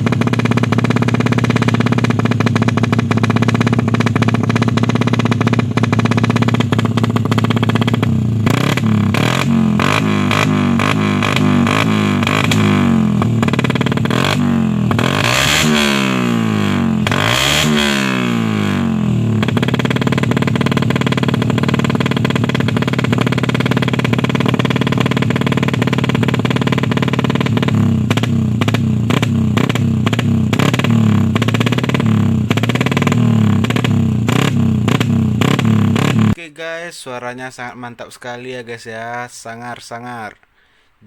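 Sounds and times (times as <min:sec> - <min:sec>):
motorcycle engine idling and revving: 0:00.0 - 0:36.4.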